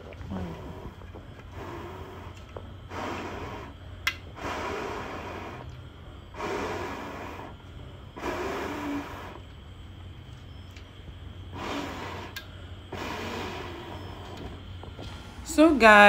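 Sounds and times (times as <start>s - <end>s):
breaths blown onto charcoal: 0.3s - 9.5s, 11.4s - 15.5s.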